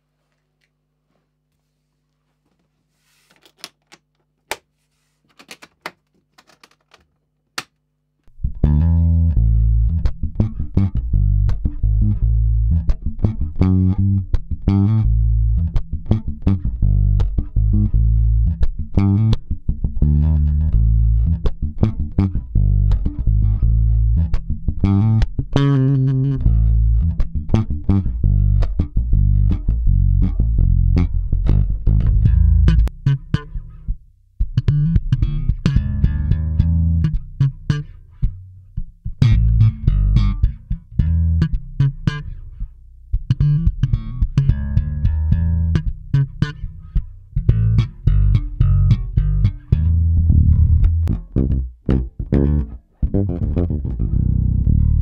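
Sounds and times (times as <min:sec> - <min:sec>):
electric bass line: 0:08.3 - 0:55.0.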